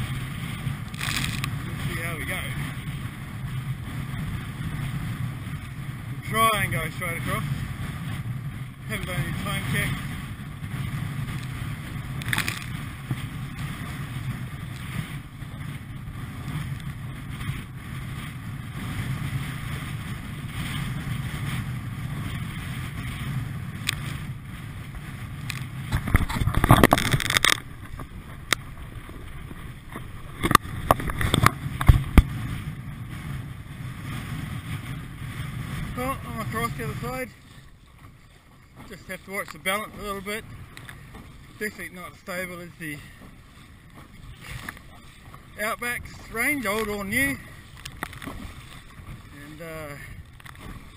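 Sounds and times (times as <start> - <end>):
water splashing: 0.0 - 4.5, 5.6 - 50.9
choppy water sloshing: 0.0 - 50.9
waves slapping: 0.0 - 50.9
wind buffeting microphone: 0.0 - 50.9.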